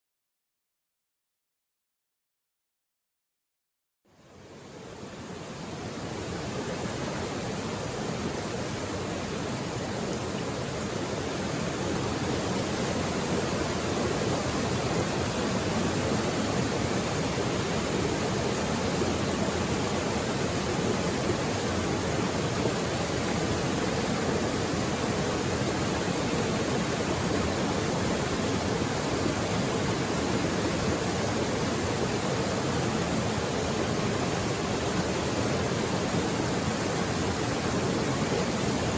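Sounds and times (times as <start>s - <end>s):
creek water flowing: 4.4s - 38.9s.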